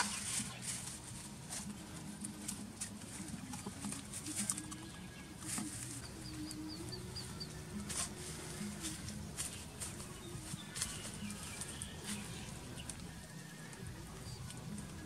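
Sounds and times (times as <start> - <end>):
low steady hum: 0.0 - 15.0
bird chirping: 2.6 - 15.0.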